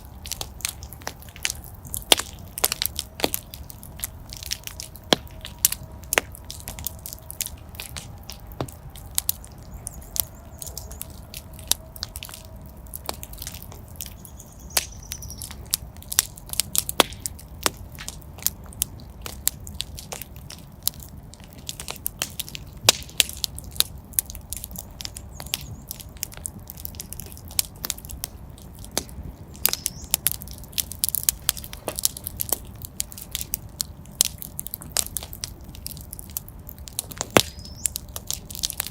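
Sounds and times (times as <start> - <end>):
fire crackling with pops: 0.0 - 38.9
low rumble of flames: 0.0 - 38.9.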